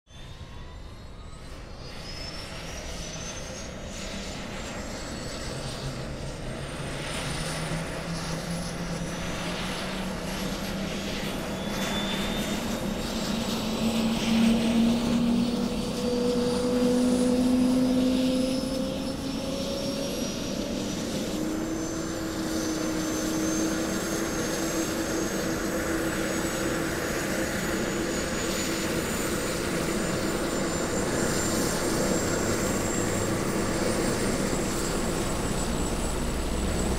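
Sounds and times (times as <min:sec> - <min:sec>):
helicopter engine whine rising: 0:00.1 - 0:36.9
helicopter rotor hum rising: 0:00.1 - 0:36.9.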